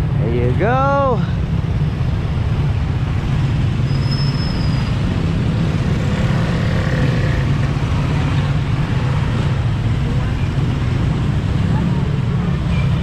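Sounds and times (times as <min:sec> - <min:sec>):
bicycle road noise: 0:00.0 - 0:13.0.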